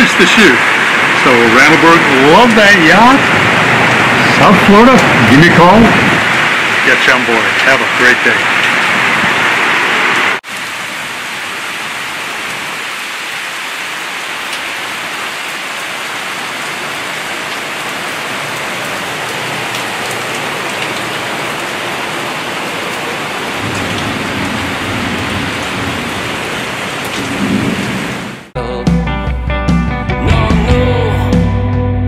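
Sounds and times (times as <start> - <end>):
heavy rain on a deck: 0.0 - 28.6.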